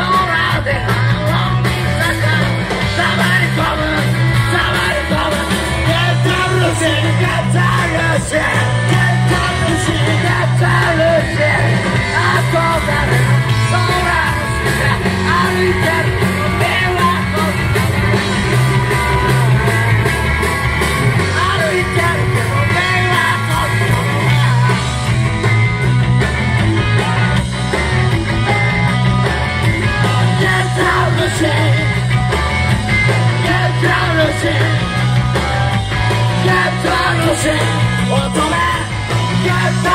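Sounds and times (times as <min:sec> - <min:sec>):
singer shouting vocals: 0:00.0 - 0:20.1, 0:21.2 - 0:25.0, 0:30.0 - 0:32.0, 0:33.3 - 0:39.9
rock band playing live: 0:00.0 - 0:39.9.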